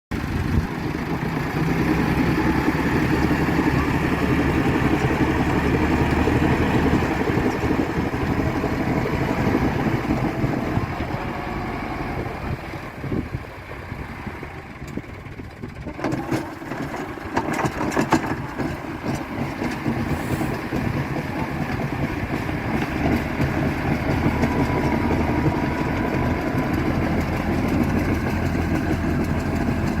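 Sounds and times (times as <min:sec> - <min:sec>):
tractor engine running: 0:00.1 - 0:30.0.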